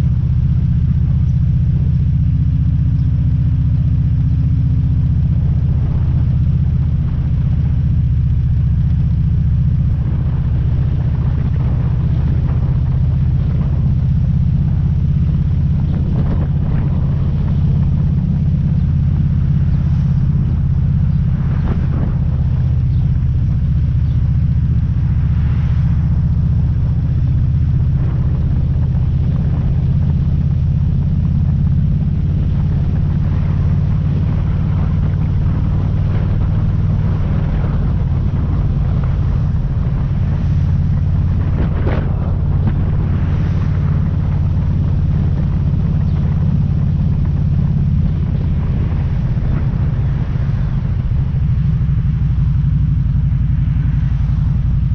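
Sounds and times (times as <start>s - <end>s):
motorcycle engine cruising: 0.0s - 54.9s
wind rushing over microphone: 0.0s - 54.9s.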